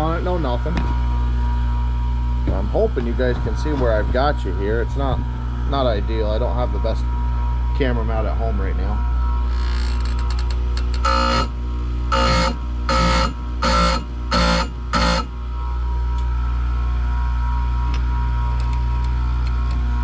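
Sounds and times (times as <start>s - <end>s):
grinder motor hum: 0.0s - 20.0s.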